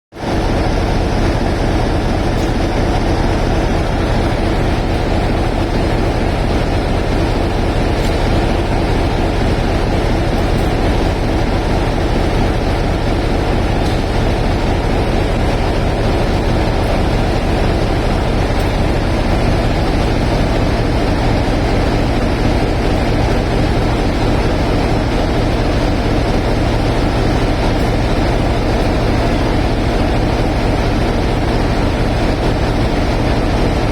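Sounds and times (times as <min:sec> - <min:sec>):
diesel locomotive engine running: 0:00.1 - 0:33.9.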